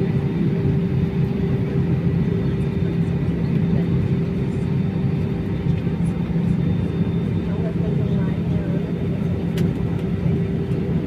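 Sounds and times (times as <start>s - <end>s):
airliner low rumble and hum: 0.0s - 11.0s.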